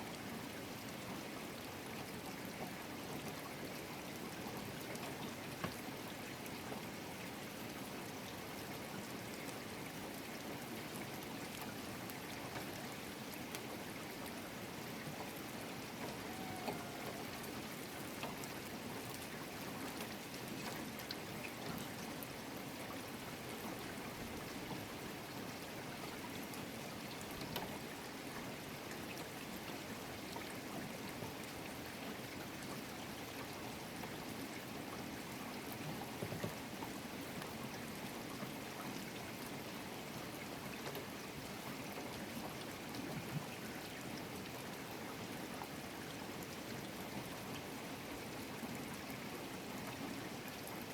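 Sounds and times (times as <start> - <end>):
steady rainfall: 0.0 - 50.9.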